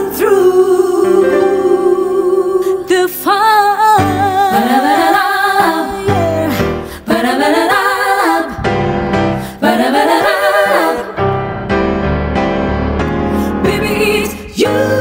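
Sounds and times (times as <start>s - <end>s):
women singing in harmony: 0.0s - 11.4s, 13.5s - 15.0s
piano: 0.0s - 15.0s.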